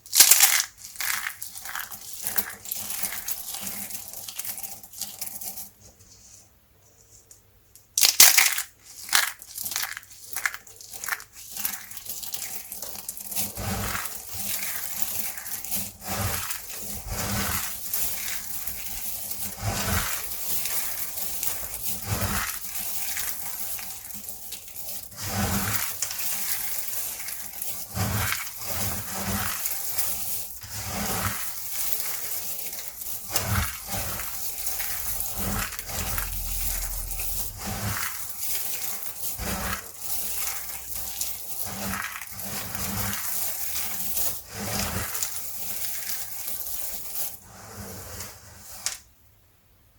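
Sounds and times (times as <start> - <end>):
soap crunching and crackling: 0.0 - 4.8, 8.0 - 47.4.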